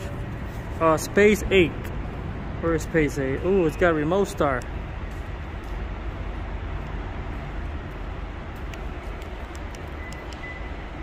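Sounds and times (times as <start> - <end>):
parking garage rumble: 0.0 - 11.0.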